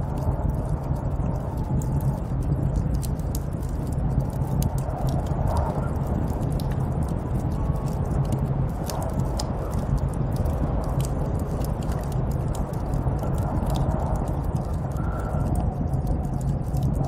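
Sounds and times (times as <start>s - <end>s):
light crackles and ticks: 0.0s - 17.0s
snowstorm wind rushing: 0.0s - 17.0s.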